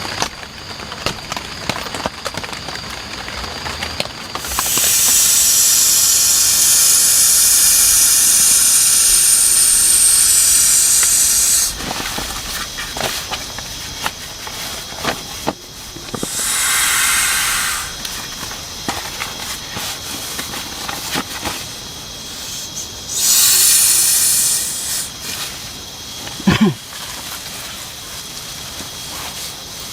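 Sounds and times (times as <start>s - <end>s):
loud steady hiss: 0.0s - 29.9s.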